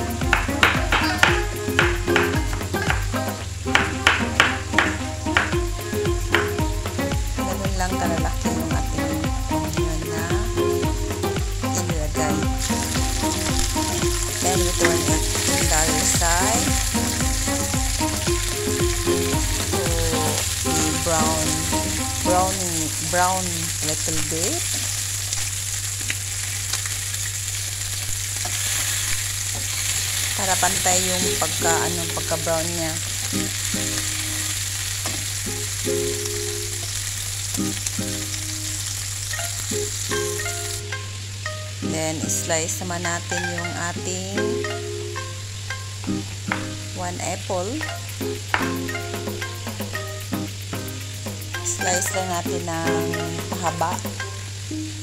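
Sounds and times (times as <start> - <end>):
soft background music: 0.0 - 24.8, 29.5 - 55.0
chicken frying in oil: 0.0 - 55.0.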